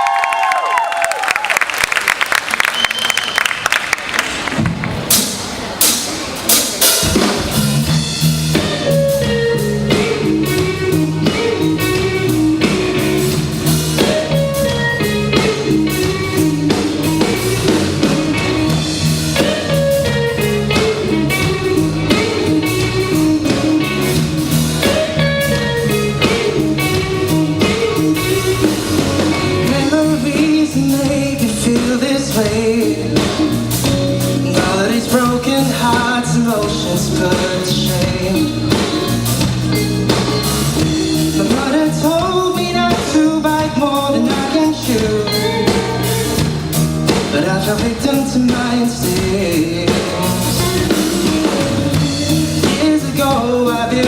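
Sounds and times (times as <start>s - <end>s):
drum kit: 4.0s - 54.0s
bass guitar notes: 4.3s - 54.0s
guitar: 4.5s - 54.0s.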